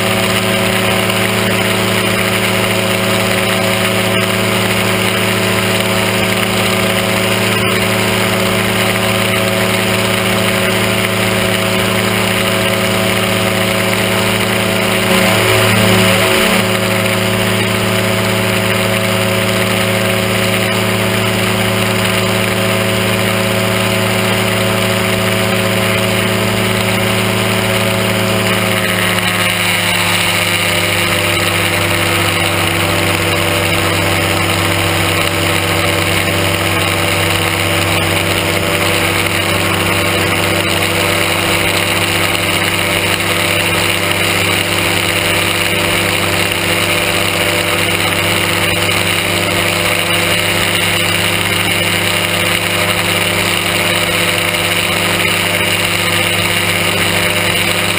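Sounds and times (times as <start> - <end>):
microlight engine and propeller: 0.0 - 57.9.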